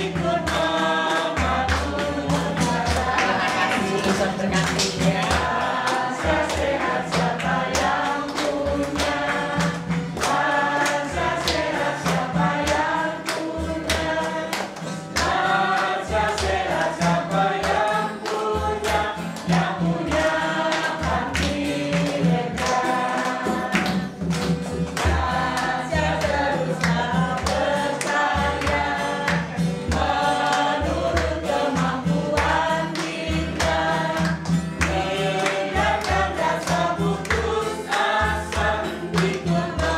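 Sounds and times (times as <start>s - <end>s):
voices singing over a beat: 0.0s - 39.9s.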